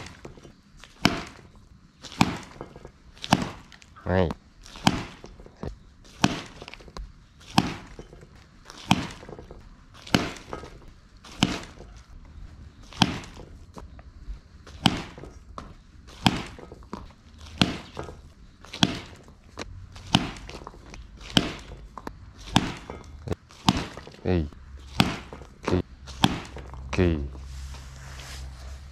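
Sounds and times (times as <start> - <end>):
bat hitting balls: 0.0 - 12.2, 12.8 - 13.9, 14.7 - 27.3.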